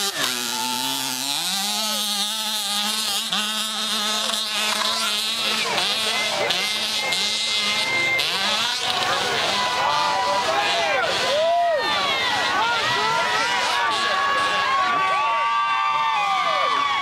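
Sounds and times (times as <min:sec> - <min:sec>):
dirt bike engine revving: 0:00.0 - 0:15.2.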